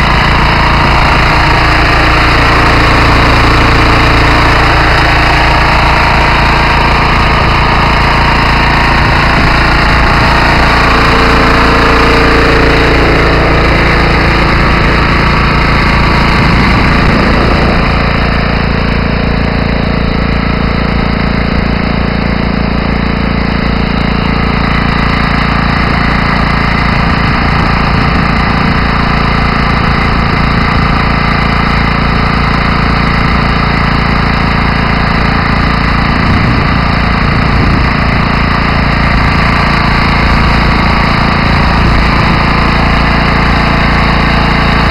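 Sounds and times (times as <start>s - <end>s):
diesel engine running under load: 0.0s - 44.9s
pump discharging water through hose: 0.0s - 44.9s.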